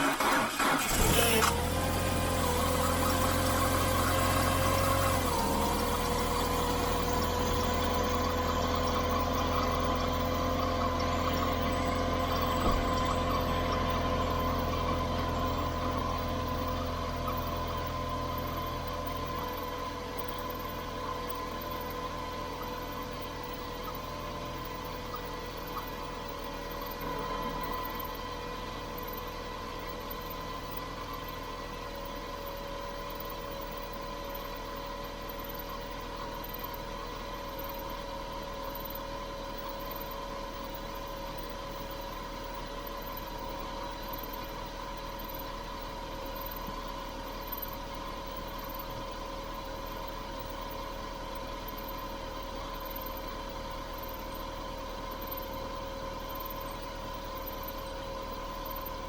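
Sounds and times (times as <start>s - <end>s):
car engine idling: 0.0s - 47.6s.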